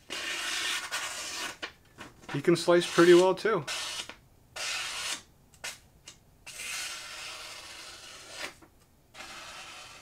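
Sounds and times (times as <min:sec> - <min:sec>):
blade slicing paper: 0:00.1 - 0:01.7, 0:02.8 - 0:05.8, 0:06.5 - 0:10.0.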